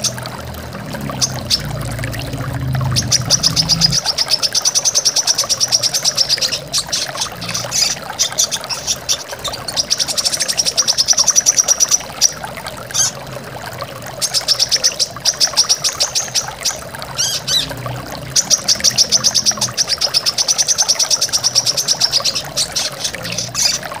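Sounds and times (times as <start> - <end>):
flowing water: 0.0 - 24.0.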